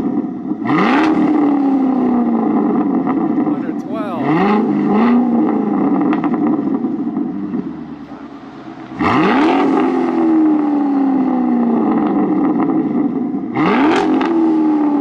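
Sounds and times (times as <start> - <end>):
car engine revving: 0.6 - 15.0.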